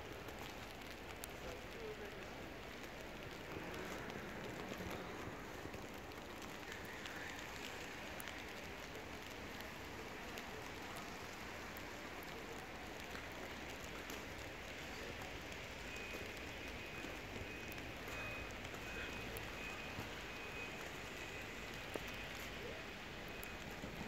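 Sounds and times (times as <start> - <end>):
wet snow pattering: 0.0 - 24.0
faint ticks: 0.2 - 24.0.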